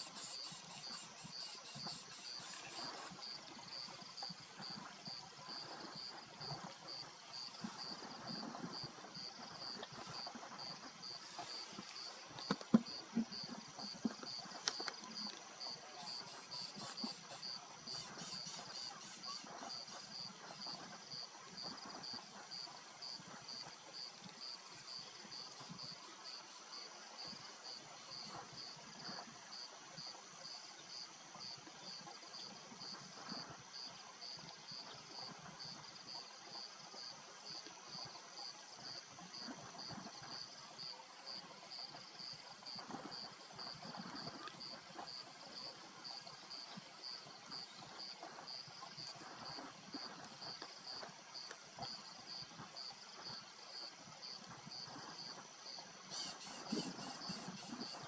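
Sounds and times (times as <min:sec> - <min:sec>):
insects chirping: 0:00.0 - 0:34.8, 0:35.6 - 0:58.0.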